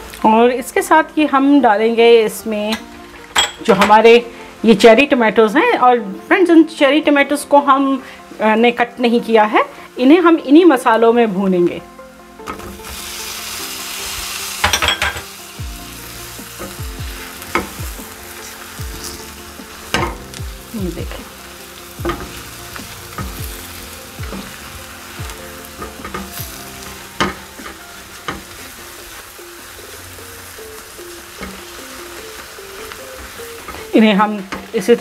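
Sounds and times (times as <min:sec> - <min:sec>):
tomatoes sizzling in oil: 0:00.0 - 0:35.0.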